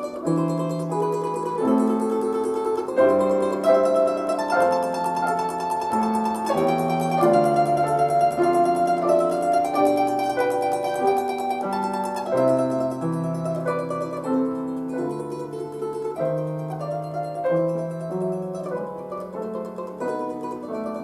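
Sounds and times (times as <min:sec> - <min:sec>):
plucked string instrument melody: 0:00.0 - 0:21.0.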